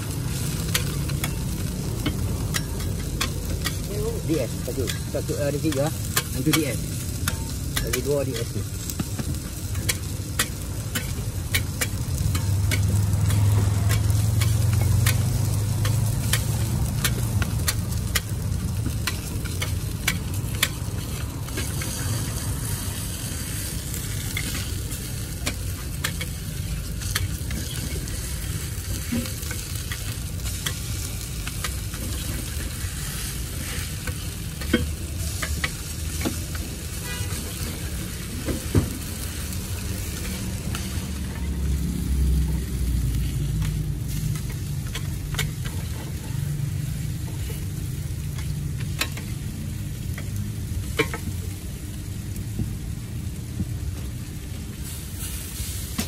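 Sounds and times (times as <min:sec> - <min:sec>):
burger patties sizzling on griddle: 0:00.0 - 0:56.0
metal spatula scraping griddle: 0:00.1 - 0:49.5.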